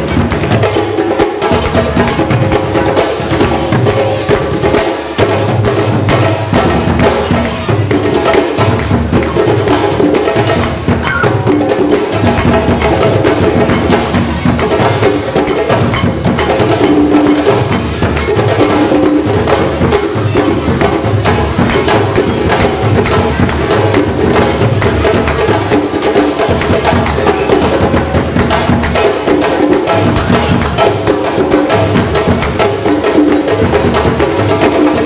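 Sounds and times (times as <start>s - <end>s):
hand drums playing: 0.0s - 35.0s.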